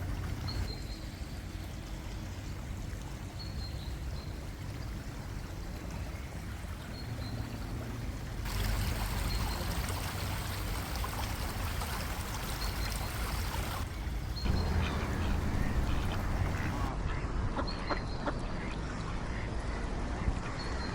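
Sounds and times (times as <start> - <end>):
water flowing and splashing: 0.0 - 17.0.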